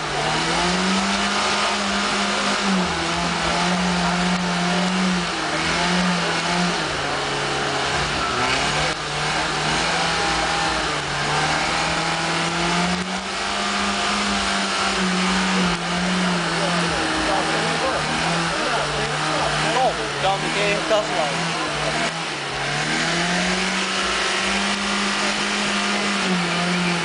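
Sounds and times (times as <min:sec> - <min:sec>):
car engine revving: 0:00.0 - 0:27.0
tyres spinning: 0:00.0 - 0:27.0.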